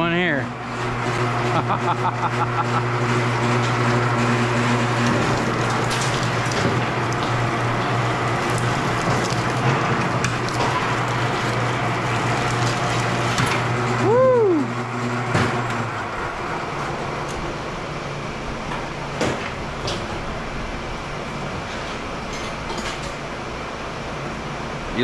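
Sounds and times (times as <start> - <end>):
machine mechanical hum: 0.0 - 25.0.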